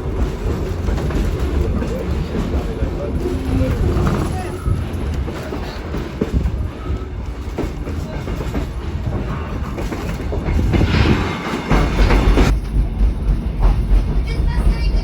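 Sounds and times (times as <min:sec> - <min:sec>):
train wheels clattering over rails: 0:00.0 - 0:15.0.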